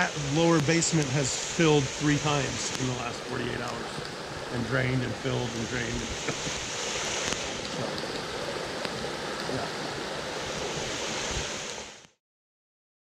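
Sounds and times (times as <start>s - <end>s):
heavy rain with water running: 0.0s - 12.2s.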